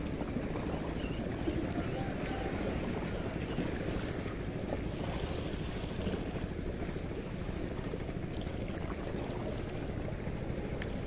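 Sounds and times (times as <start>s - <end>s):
sea water washing: 0.0s - 11.0s
wind rumble on microphone: 0.0s - 11.0s.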